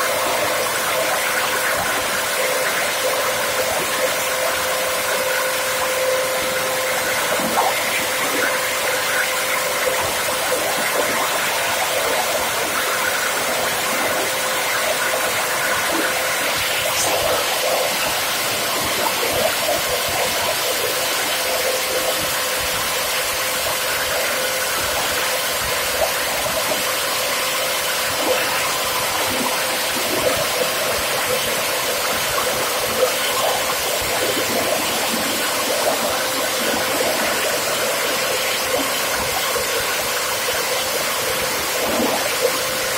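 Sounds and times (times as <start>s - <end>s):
bottle grinder running: 0.0s - 42.9s.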